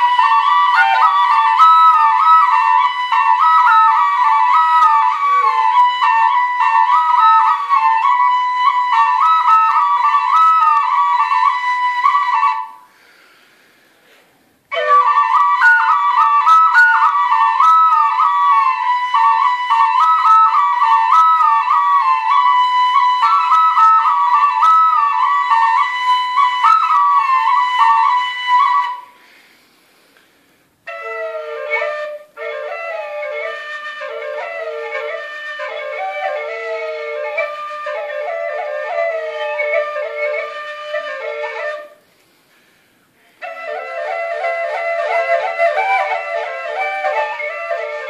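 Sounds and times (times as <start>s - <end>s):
higher single-line flute melody: 0.0s - 13.0s, 14.7s - 29.3s, 30.8s - 42.1s, 43.4s - 48.0s
double flute folk melody: 0.0s - 13.5s, 14.6s - 30.1s, 30.8s - 48.0s.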